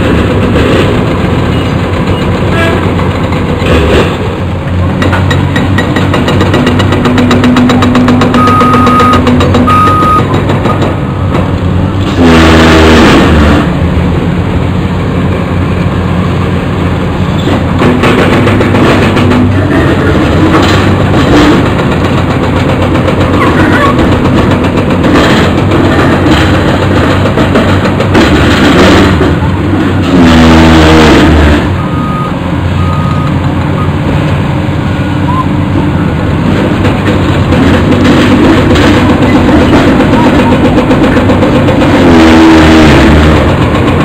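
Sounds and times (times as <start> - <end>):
excavator diesel engines revving: 0.0 - 44.0.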